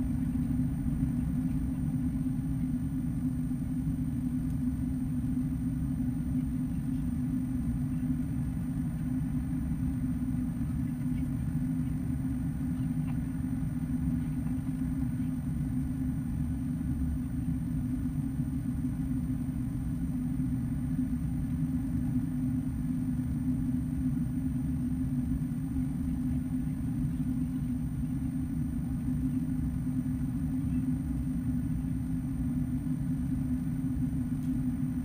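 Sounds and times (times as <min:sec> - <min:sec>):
airplane cabin engine drone: 0:00.0 - 0:35.0.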